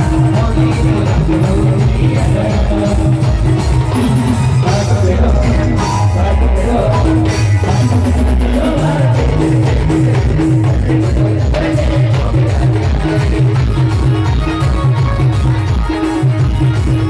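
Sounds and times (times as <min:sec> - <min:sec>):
person singing: 0:00.0 - 0:15.0
drums: 0:00.0 - 0:17.0
heavy bass: 0:00.0 - 0:17.0.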